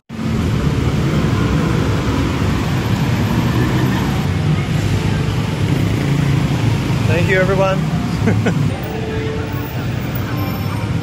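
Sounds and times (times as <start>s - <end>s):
city traffic rumble: 0.1s - 11.0s.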